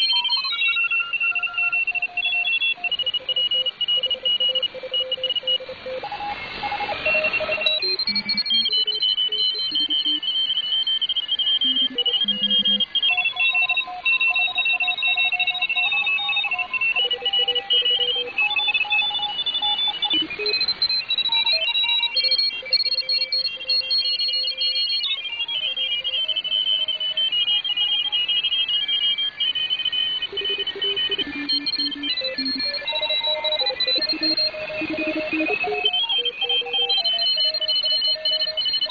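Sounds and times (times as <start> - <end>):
morse code beeping tones: 1.8 - 29.3, 30.0 - 38.9.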